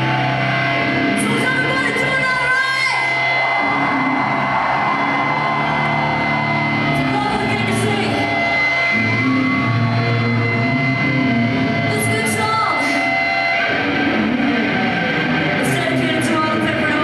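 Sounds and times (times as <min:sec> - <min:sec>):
live metal band playing: 0:00.0 - 0:17.0.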